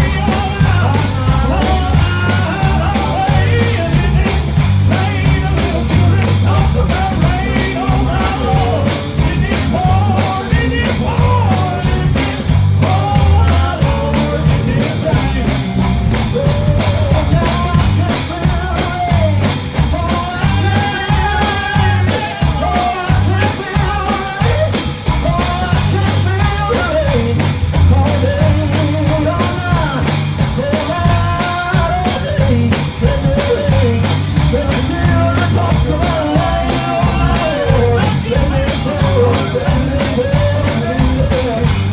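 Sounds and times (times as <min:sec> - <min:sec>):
bass line: 0:00.0 - 0:41.9
drum kit beat: 0:00.0 - 0:41.9
person singing: 0:00.0 - 0:41.9.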